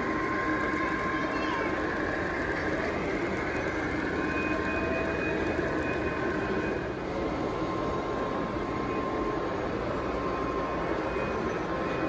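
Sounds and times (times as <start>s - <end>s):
faint steady tones: 0.0s - 12.0s
large hall background noise: 0.0s - 12.0s
model train rolling on track: 0.0s - 12.0s.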